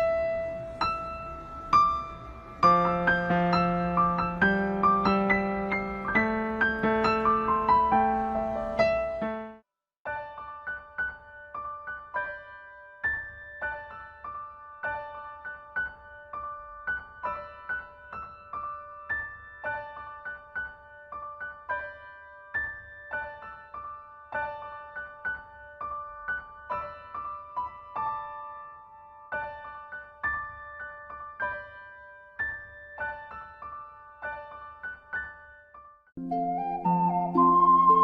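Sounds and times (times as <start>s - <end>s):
gentle piano melody: 0.0s - 38.0s.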